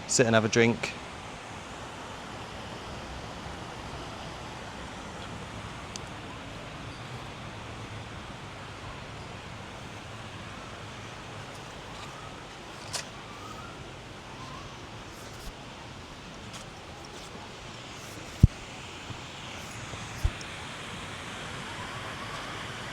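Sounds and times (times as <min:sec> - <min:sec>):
river flowing over rocks: 0:01.0 - 0:22.9.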